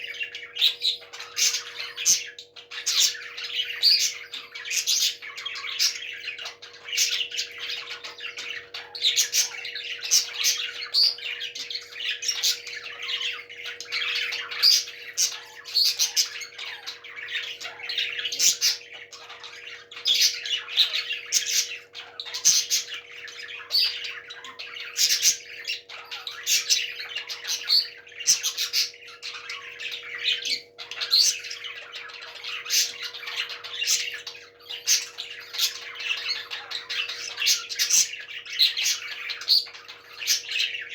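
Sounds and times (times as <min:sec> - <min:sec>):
parrots squawking and chattering: 0:00.0 - 0:40.9.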